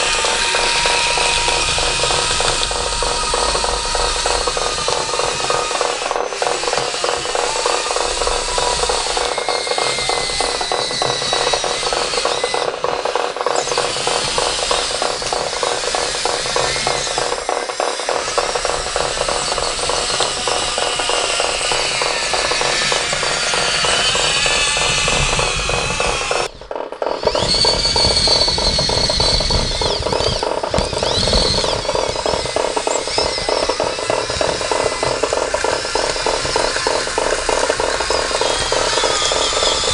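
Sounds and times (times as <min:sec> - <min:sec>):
fast rattle of gears: 0:00.0 - 0:39.9
small electric motors whirring: 0:00.0 - 0:39.9.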